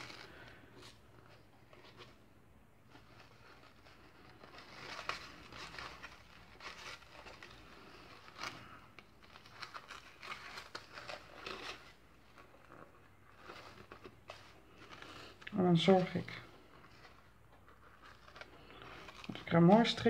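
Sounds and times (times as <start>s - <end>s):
ribbon and paper box rustling: 0.0s - 20.0s.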